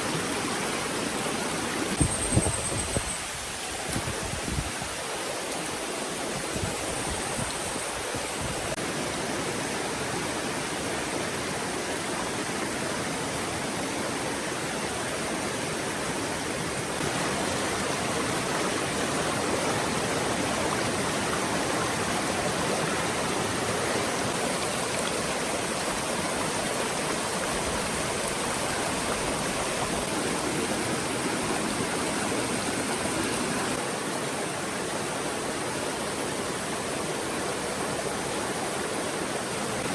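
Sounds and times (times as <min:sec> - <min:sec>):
stream water flowing and splashing: 0:00.0 - 0:39.9.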